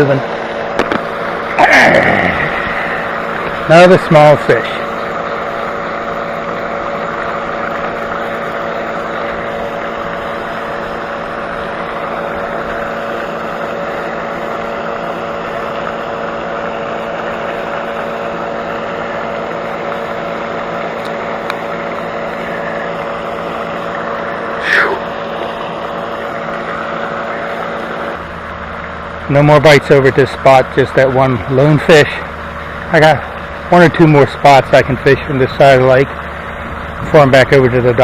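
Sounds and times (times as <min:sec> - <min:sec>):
steady motor drone: 0:00.0 - 0:38.0.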